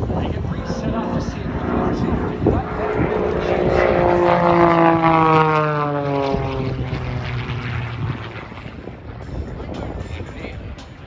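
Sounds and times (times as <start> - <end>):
propeller plane passing by: 0.0 - 11.0.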